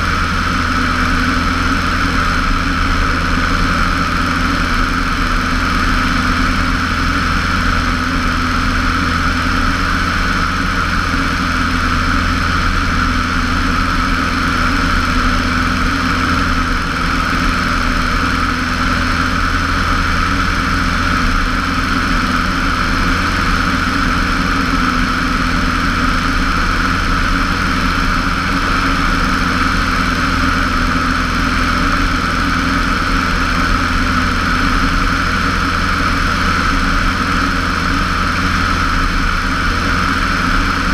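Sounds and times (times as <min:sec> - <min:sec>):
airplane engine and propeller: 0:00.0 - 0:40.9.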